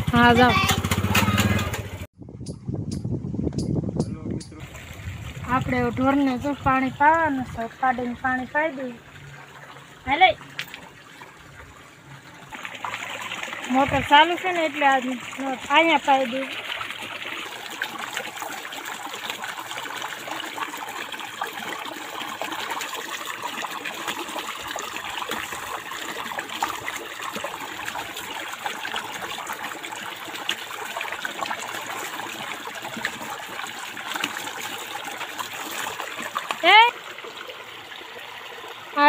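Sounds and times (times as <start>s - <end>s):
hose water splashing on hide: 4.6s - 39.0s.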